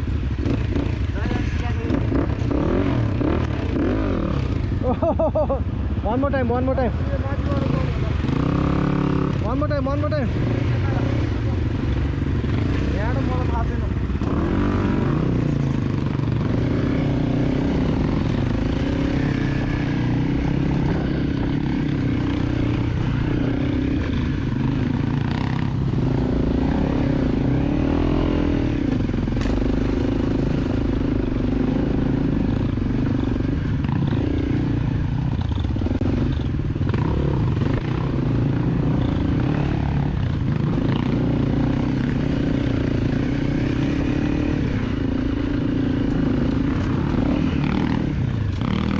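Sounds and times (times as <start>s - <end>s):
dirt bike engine running: 0.0s - 48.9s.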